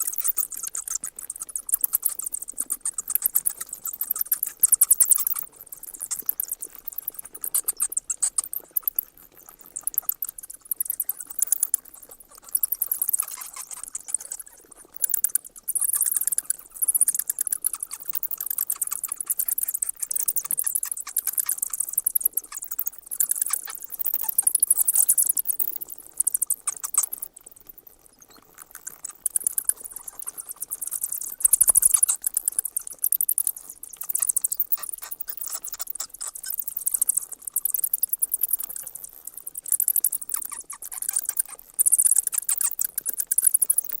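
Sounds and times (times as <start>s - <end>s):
bats squeaking: 0.0s - 44.0s.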